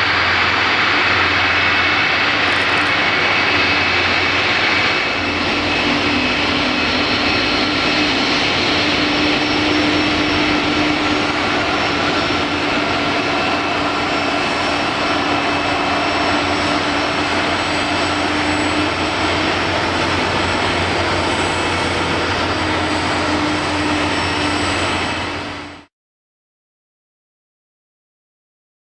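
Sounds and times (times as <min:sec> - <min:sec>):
jet engine whine: 0:00.0 - 0:25.9
jet engines rumbling: 0:00.3 - 0:25.8.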